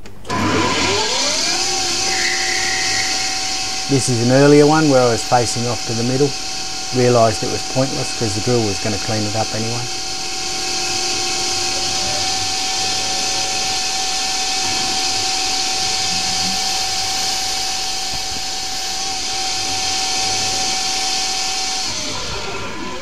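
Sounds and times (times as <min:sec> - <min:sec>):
lathe drilling whine and hiss: 0:00.3 - 0:23.0.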